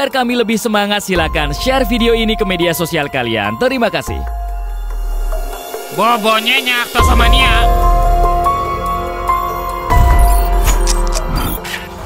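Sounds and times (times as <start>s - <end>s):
synth music with deep bass: 1.2s - 12.0s.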